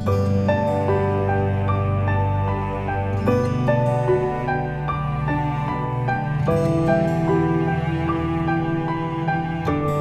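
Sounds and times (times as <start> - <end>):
gentle melody over sustained bass: 0.0 - 10.0.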